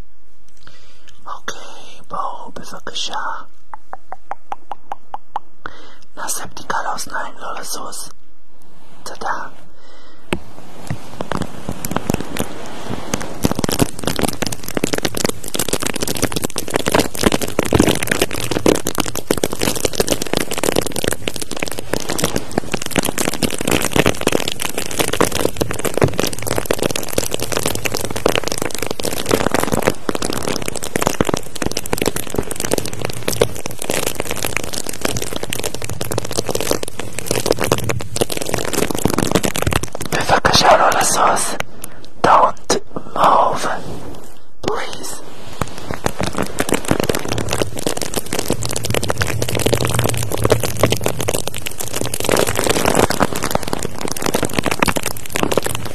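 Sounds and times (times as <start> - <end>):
close crackling and crinkling: 0.4 - 55.9.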